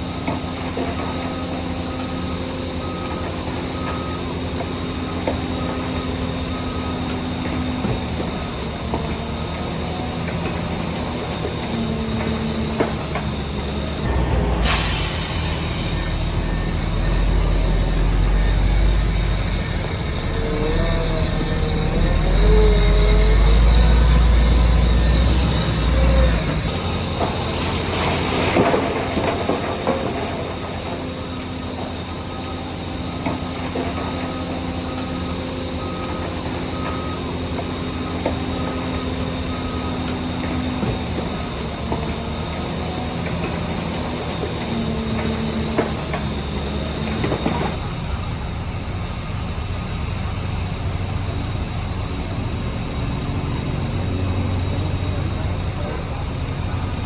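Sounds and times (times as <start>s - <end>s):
machinery squeals: 0.0s - 47.9s
diesel engine running: 0.0s - 57.0s.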